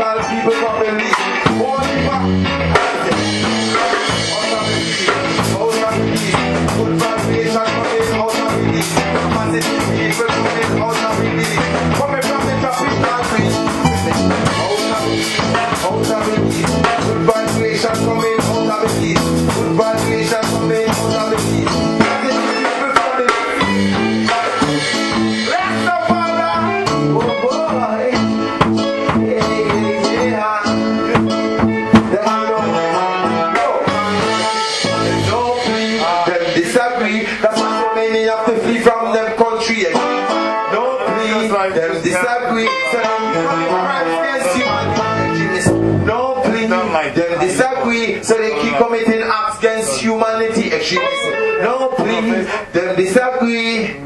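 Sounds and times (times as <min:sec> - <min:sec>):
person singing: 0:00.0 - 0:54.0
reggae band music: 0:00.0 - 0:54.0.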